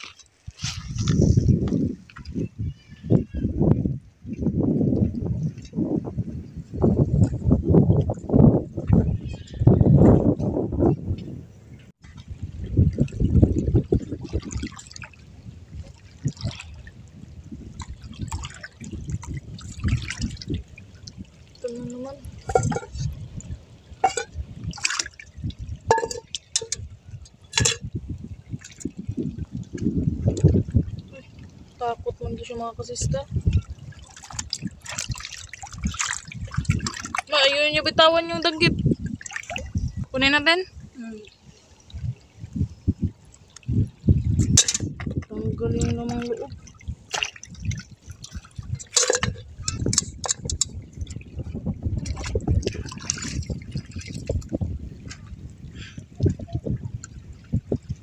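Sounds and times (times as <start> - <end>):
seawater splashing and sloshing: 0.0 - 3.0, 12.0 - 58.0.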